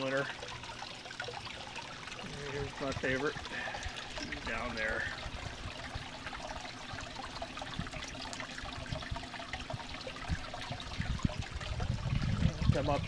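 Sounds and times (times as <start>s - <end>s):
air stones bubbling: 0.0s - 13.0s
waterfall trickling and splashing: 0.0s - 13.0s.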